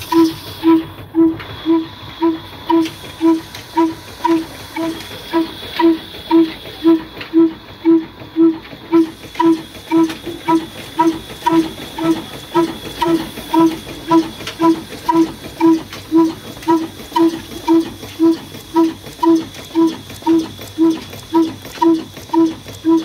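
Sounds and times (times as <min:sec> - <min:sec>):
diesel engine running slowly: 0:00.0 - 0:23.0.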